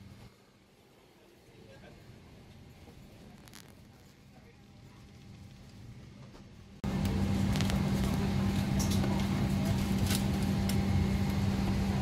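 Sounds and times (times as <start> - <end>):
airliner cabin hum and hiss: 0.0 - 12.0.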